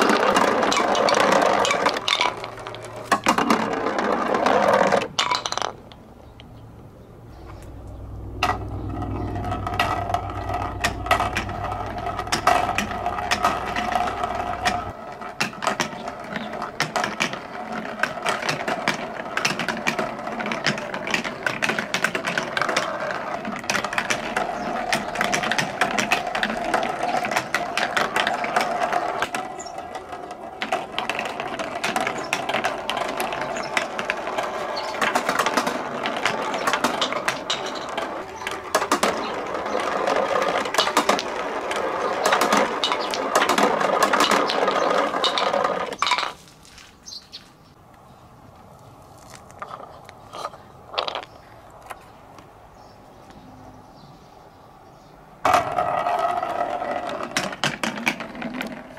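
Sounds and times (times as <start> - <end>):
marbles rolling and clacking: 0.0 - 6.0, 8.4 - 46.8, 49.2 - 51.4, 55.4 - 58.9.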